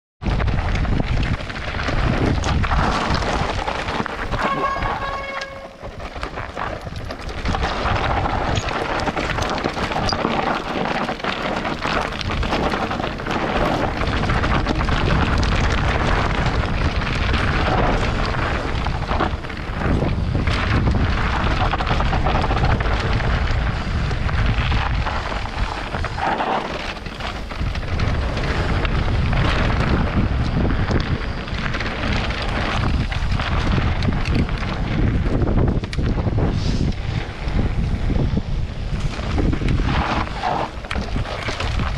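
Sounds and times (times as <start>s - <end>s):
bike rattling over bumps: 0.2s - 41.9s
tyres crunching on gravel: 0.2s - 41.9s
wind buffeting microphone: 0.2s - 41.9s.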